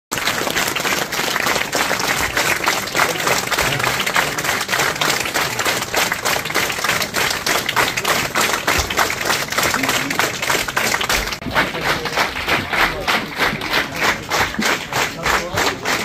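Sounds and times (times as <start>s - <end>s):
audience applauding: 0.1s - 16.0s.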